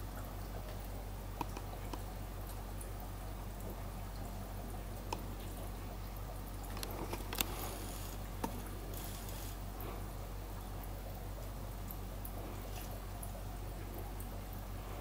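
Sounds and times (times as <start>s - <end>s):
aquarium filter humming: 0.0s - 15.0s
water drips: 0.0s - 15.0s
water trickling: 0.0s - 15.0s.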